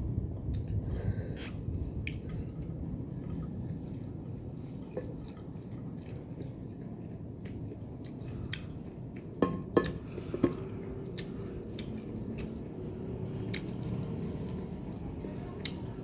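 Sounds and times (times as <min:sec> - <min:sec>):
chewing and mouth noises: 0:00.4 - 0:16.0.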